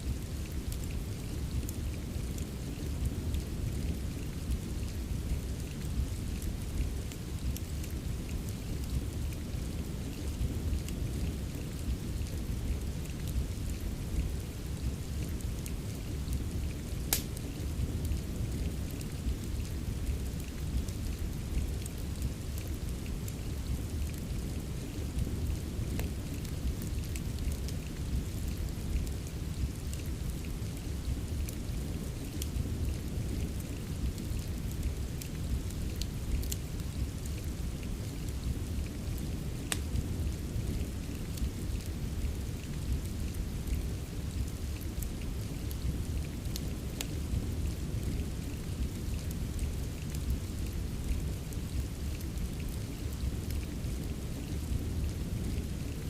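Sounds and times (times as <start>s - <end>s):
fireplace crackling: 0.0s - 56.0s
steady rain: 0.0s - 56.0s.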